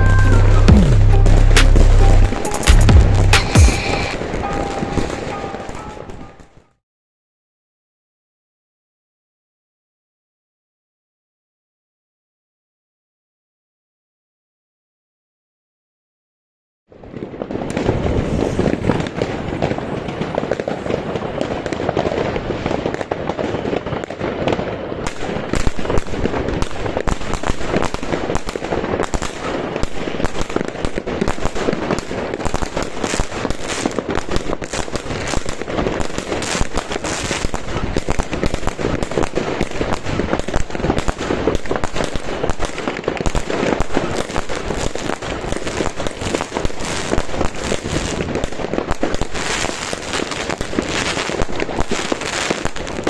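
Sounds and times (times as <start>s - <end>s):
fireworks bangs and crackles: 0.0s - 6.8s, 16.9s - 53.0s.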